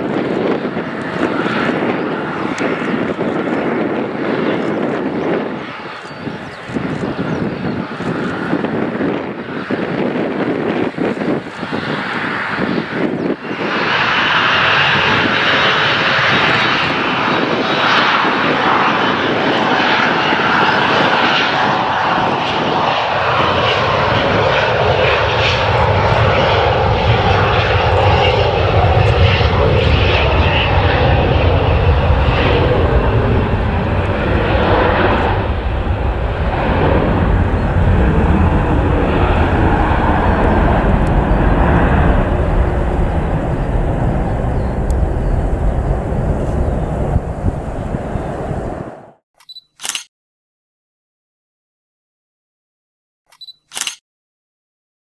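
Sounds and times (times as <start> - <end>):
jet engine low rumble: 0.0 - 49.2
jet engines whining: 0.0 - 49.2.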